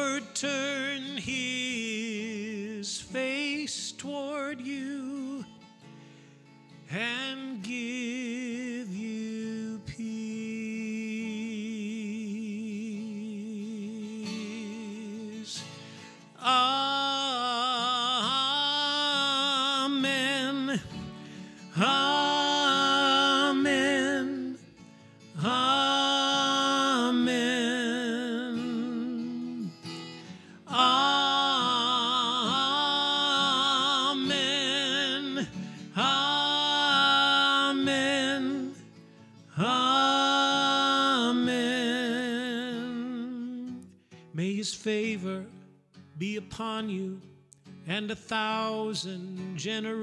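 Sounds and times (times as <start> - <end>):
person singing with vibrato: 0.0 - 5.7, 6.7 - 45.6
guitar accompaniment: 0.0 - 50.0.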